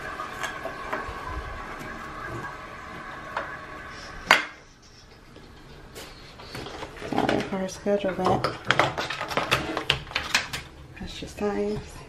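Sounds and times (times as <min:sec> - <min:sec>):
water running in pipes: 0:00.0 - 0:12.0.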